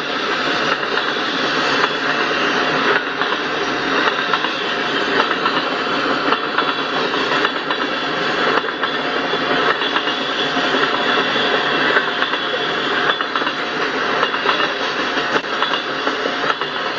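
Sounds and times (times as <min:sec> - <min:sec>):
freight train wheels rumbling: 0:00.0 - 0:16.9
wheels clacking over rail joints: 0:00.0 - 0:16.9.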